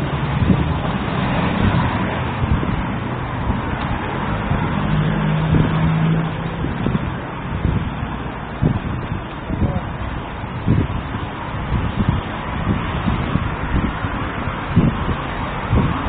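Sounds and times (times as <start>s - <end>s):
road traffic noise: 0.0s - 16.0s
vehicle low drone: 0.0s - 16.0s.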